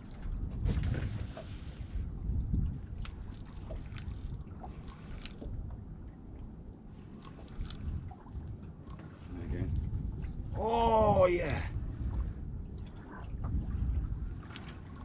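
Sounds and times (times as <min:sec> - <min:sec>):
water against boat hull: 0:00.0 - 0:15.0
wind rumble on microphone: 0:00.0 - 0:15.0.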